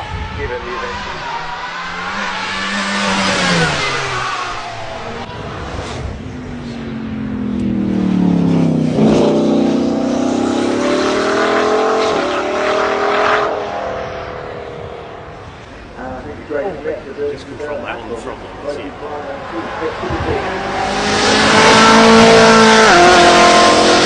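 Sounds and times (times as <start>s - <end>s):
car engine accelerating hard: 0.0s - 16.2s, 17.9s - 24.0s.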